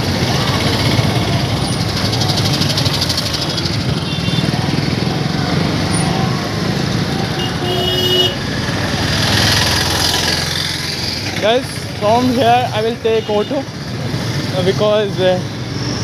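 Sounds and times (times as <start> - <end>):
motorcycle engines rumbling: 0.0 - 16.0.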